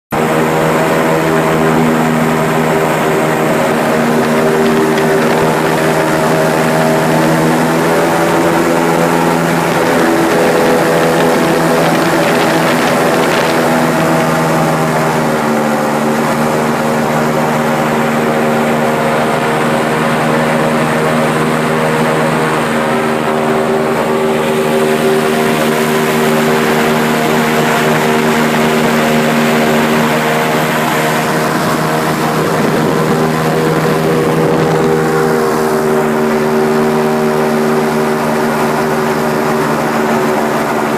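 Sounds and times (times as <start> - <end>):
airboat engine and propeller drone: 0.1 - 40.9.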